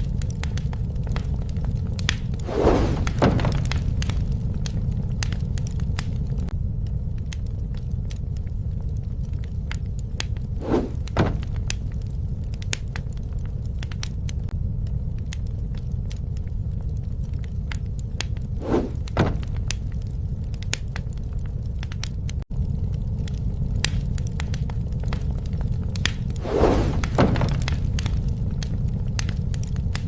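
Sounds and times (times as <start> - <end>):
bonfire rumbling: 0.0 - 30.0
fire crackling and popping: 0.0 - 30.0.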